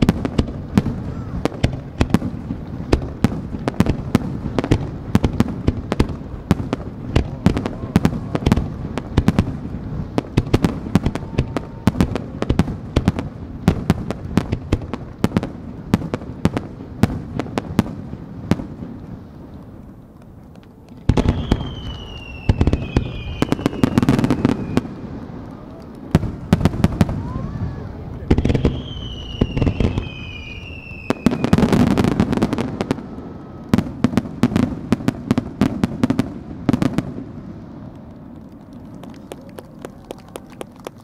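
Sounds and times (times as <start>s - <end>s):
fireworks bursting with bangs: 0.0s - 41.0s
whistling fireworks: 0.0s - 41.0s.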